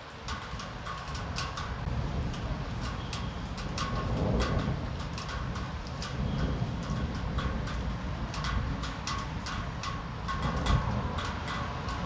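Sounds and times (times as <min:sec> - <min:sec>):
low storm rumble: 0:00.0 - 0:12.0
raindrops tapping on a hard surface: 0:00.0 - 0:12.0.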